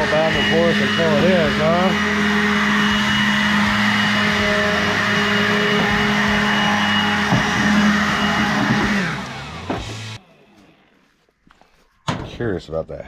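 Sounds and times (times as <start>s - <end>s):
leaf blower whining: 0.0s - 11.8s.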